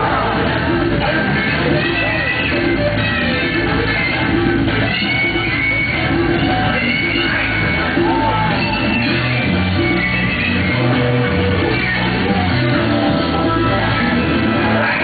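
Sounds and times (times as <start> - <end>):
loud music with bass line: 0.0 - 15.0.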